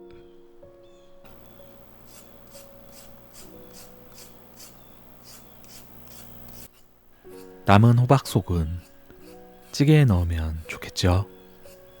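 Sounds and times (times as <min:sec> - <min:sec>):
soft background music: 0:00.0 - 0:05.0, 0:07.2 - 0:12.0
squash rasping on slicer: 0:01.3 - 0:10.0, 0:10.6 - 0:12.0.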